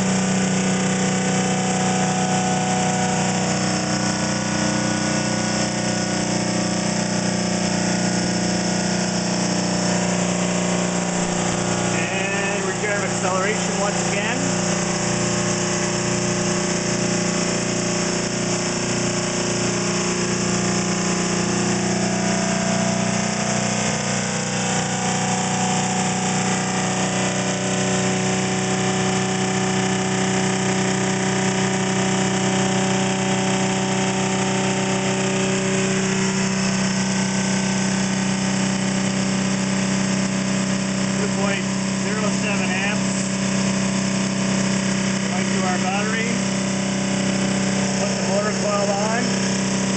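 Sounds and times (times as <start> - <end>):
generator humming and whining: 0.0 - 49.9.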